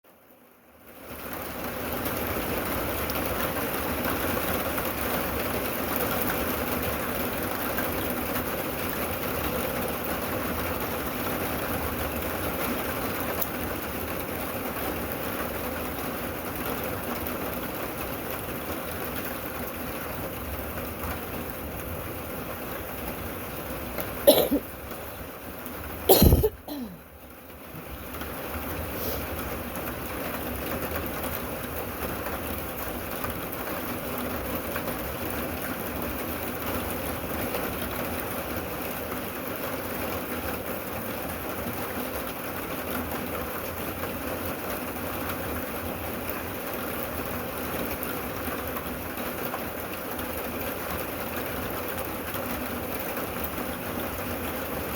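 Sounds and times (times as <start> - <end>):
steady rain: 0.1 - 54.9.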